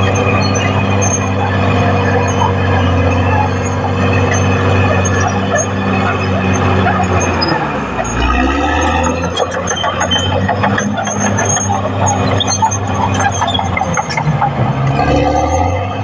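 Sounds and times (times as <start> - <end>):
bulldozer diesel engine running: 0.0 - 16.0
high squeaks: 0.0 - 16.0.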